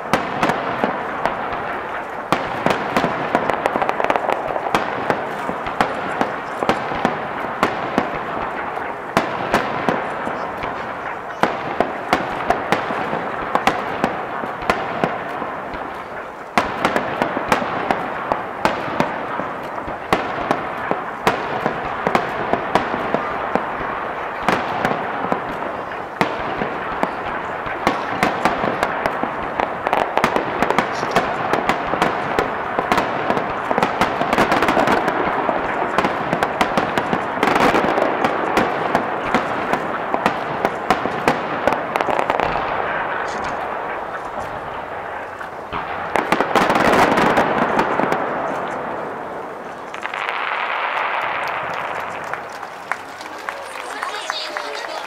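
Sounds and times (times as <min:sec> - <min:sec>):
continuous firework crackling: 0:00.0 - 0:55.0
firework bangs and cracks: 0:00.0 - 0:55.0.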